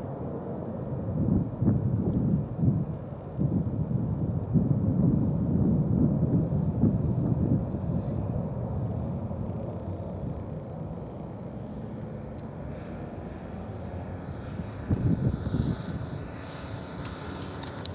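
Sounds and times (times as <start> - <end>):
jet engines rumbling: 0.0 - 17.9.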